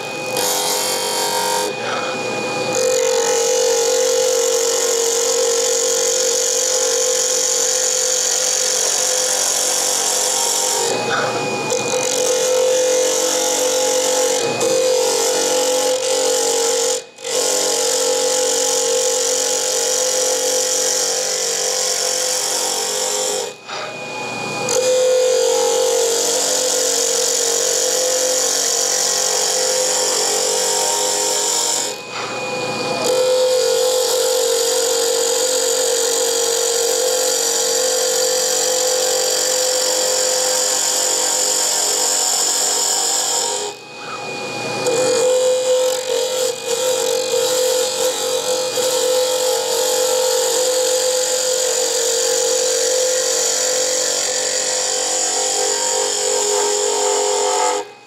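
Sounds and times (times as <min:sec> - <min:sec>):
turning tool cutting wood: 0:00.0 - 0:58.0
wood lathe hum: 0:00.0 - 0:58.0.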